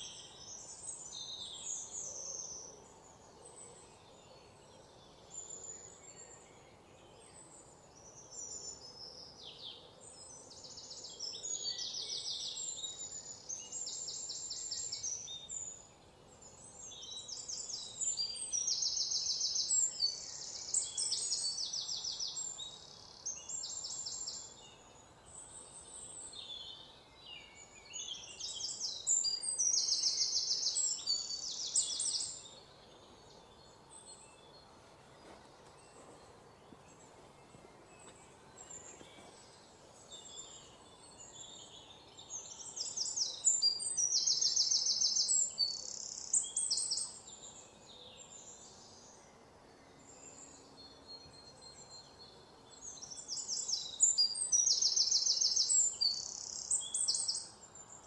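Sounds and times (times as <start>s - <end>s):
bird singing chirps and trills: 0.0s - 58.0s
faint outdoor background noise: 0.0s - 58.0s.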